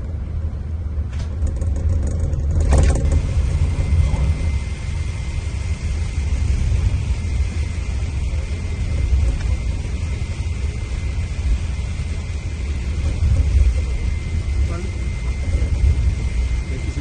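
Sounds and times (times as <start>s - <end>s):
diesel bus engine rumble: 0.0s - 17.0s
faint high whine: 2.4s - 17.0s.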